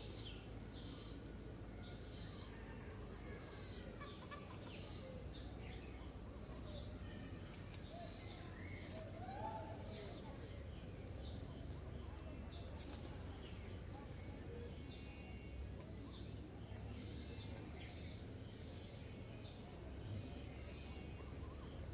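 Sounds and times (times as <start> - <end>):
insect chorus: 0.0 - 21.9.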